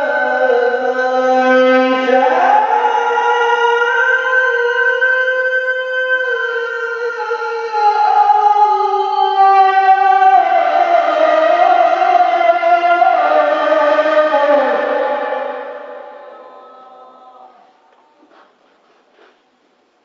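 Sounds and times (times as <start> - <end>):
man chanting into microphone: 0.0 - 17.9.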